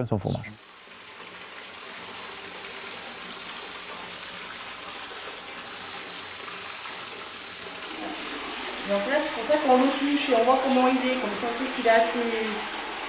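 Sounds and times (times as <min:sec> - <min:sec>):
liquid running and trickling: 0:00.6 - 0:13.0.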